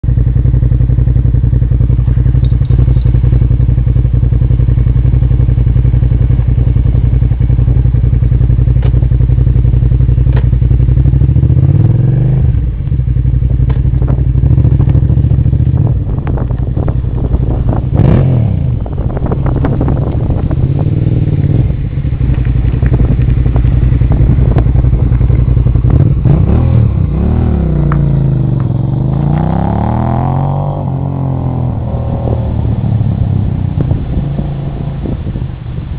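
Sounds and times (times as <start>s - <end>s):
engine throttle blips: 0.0s - 35.9s
motorcycle engine idling: 0.0s - 35.9s.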